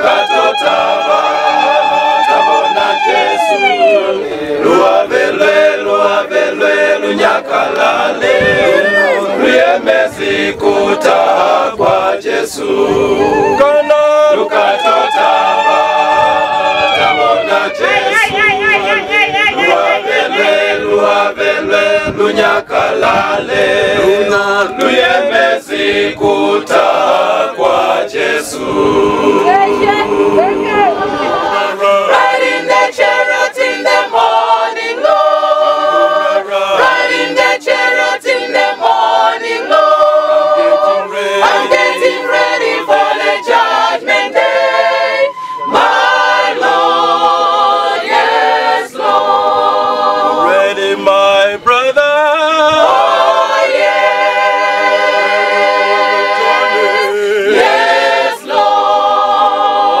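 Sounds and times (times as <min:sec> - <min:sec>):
choir singing a cappella: 0:00.0 - 1:00.0.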